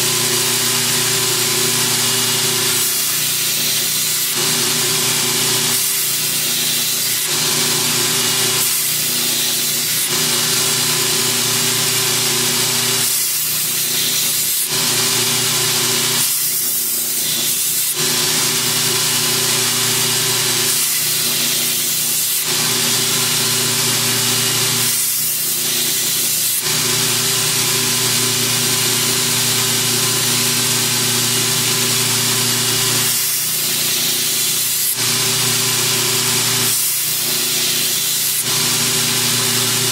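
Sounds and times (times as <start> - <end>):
belt grinder motor hum: 0.0 - 39.9
blade grinding hiss: 0.0 - 39.9.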